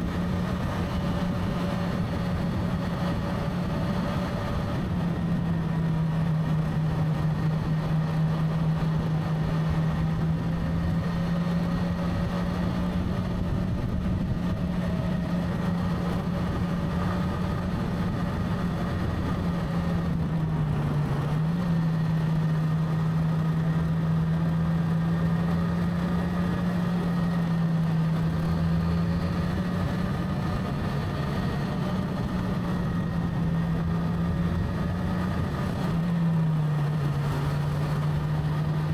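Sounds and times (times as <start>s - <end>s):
motorcycle engine cruising: 0.0s - 38.9s
road and wind noise: 0.0s - 38.9s.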